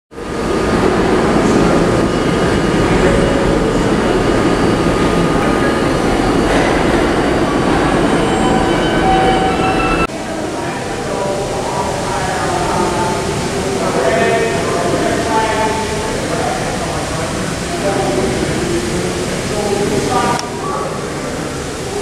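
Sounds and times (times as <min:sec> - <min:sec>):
subway train wheels rumbling: 0:00.1 - 0:22.0.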